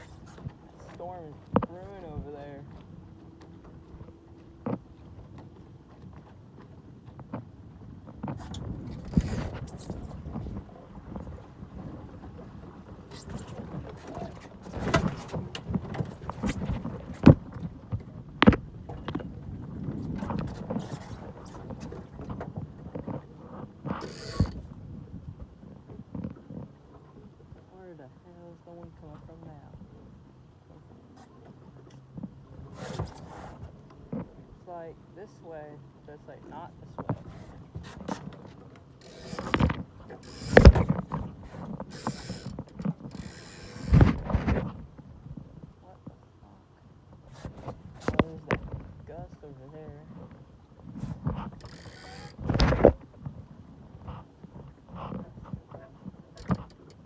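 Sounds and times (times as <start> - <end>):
boat fittings knocking and creaking: 0.0 - 27.7, 36.5 - 45.4, 47.0 - 49.3, 50.1 - 57.0.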